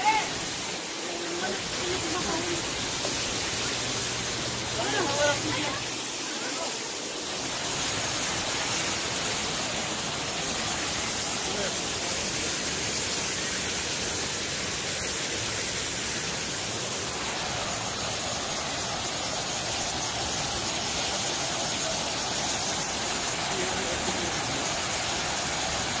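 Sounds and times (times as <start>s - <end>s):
waterfall pouring into pool: 0.0s - 26.0s.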